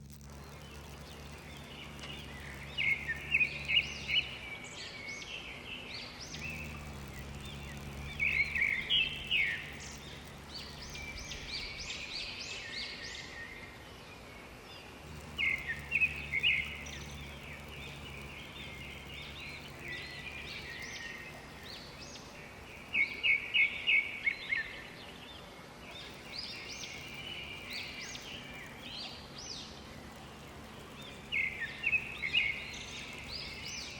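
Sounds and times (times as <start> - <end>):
low steady hum: 0.0 - 33.9
outdoor background noise: 0.0 - 33.9
songbirds singing: 0.0 - 33.9.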